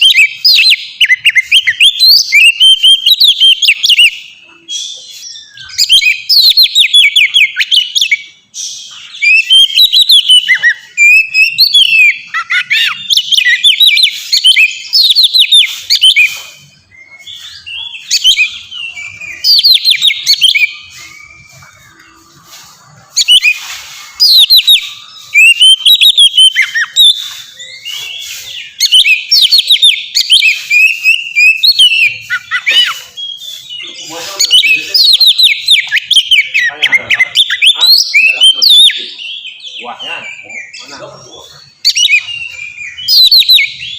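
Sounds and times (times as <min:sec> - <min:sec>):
bird singing whistled song: 0:00.0 - 0:43.9.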